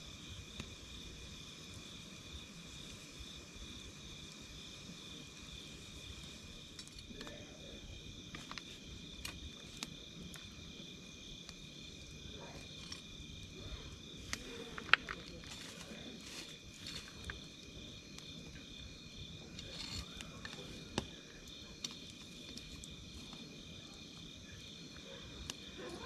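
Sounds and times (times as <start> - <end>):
campfire crackling and popping: 0.0 - 26.0
night insects chirping: 0.0 - 26.0.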